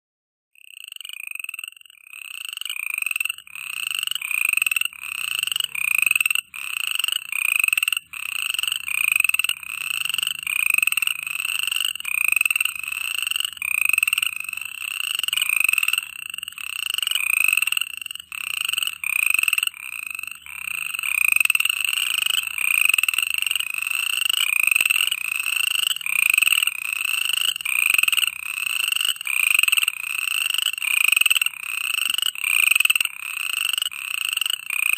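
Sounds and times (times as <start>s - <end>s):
frogs calling: 0.6s - 34.9s.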